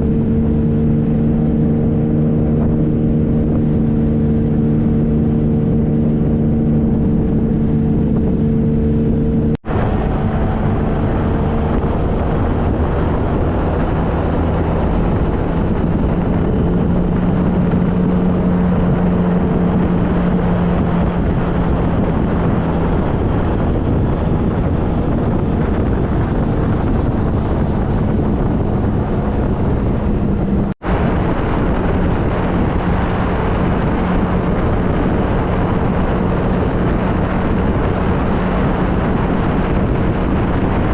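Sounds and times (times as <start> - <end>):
heavy wind noise: 0.0 - 40.9
motorcycle engine running: 0.0 - 40.9
road rush: 0.0 - 40.9.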